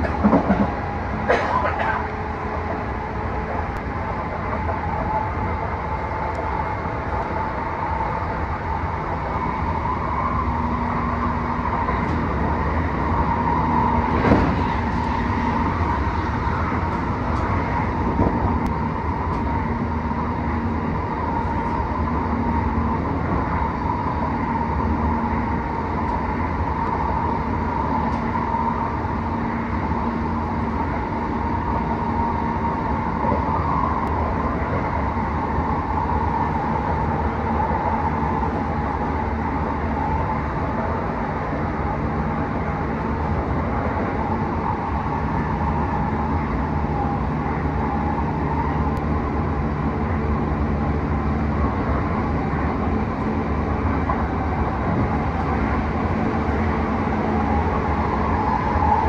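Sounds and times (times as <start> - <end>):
constant whine: 0.0 - 59.0
train wheels rumbling on rail: 0.0 - 59.0.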